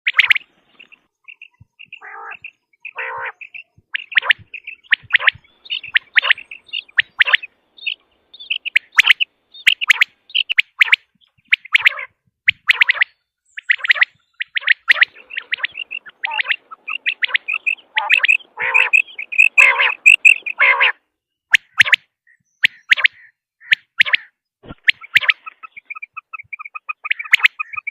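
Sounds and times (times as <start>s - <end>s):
quail calling: 0.1s - 21.0s, 22.6s - 27.9s.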